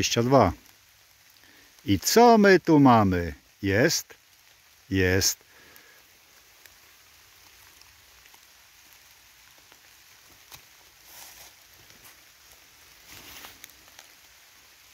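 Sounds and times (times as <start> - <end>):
light rain on leaf litter: 0.0 - 14.9
rustle of dry leaves: 0.0 - 14.9.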